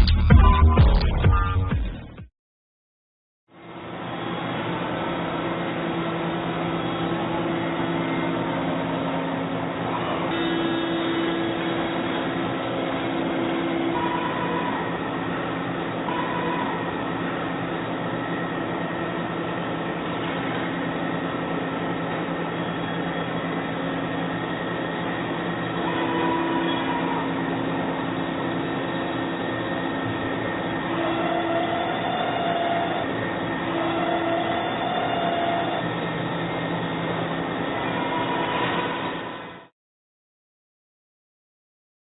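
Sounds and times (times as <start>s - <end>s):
high whining tones: 3.6s - 39.7s
milling machine running: 3.6s - 39.7s.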